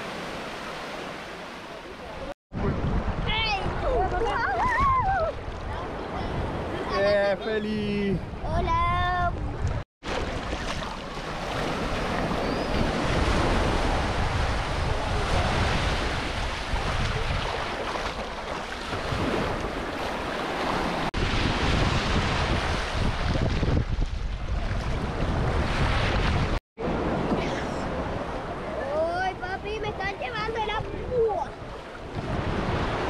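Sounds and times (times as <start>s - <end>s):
sea waves and surf: 0.0s - 33.0s
wind buffeting microphone: 2.5s - 6.9s, 7.9s - 9.8s, 11.6s - 20.0s, 20.7s - 33.0s.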